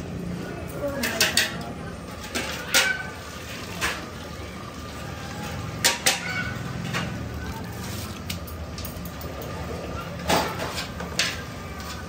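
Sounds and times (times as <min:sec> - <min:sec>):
steady background noise: 0:00.0 - 0:12.0
metal utensils clinking on pots: 0:00.8 - 0:04.3, 0:05.3 - 0:12.0.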